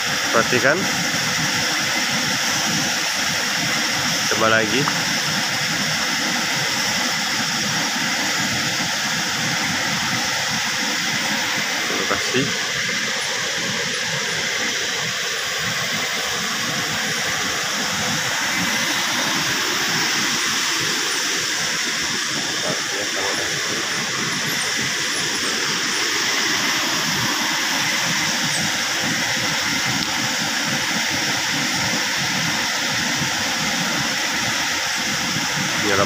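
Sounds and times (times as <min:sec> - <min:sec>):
river rushing over rocks: 0:01.2 - 0:36.0.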